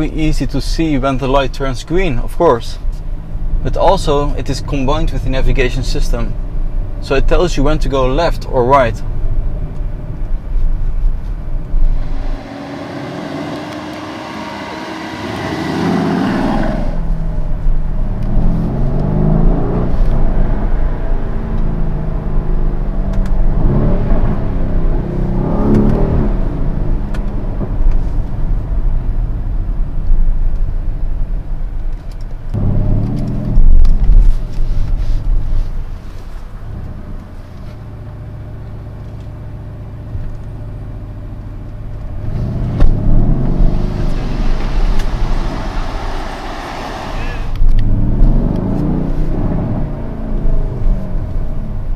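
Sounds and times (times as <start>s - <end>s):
car engine accelerating: 0.0s - 51.9s
city traffic: 0.0s - 51.9s.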